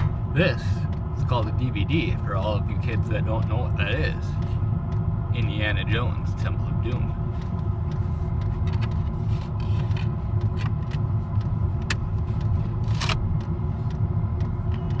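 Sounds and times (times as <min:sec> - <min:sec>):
diesel air heater running: 0:00.0 - 0:15.0.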